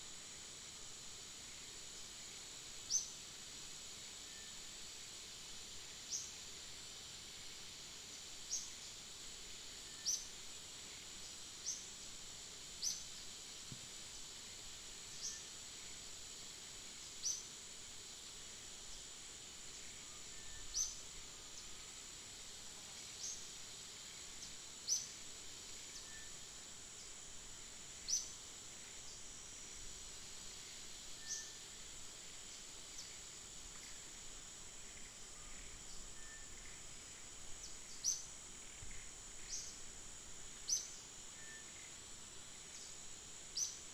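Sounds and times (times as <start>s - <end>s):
insect drone: 0.0s - 43.9s.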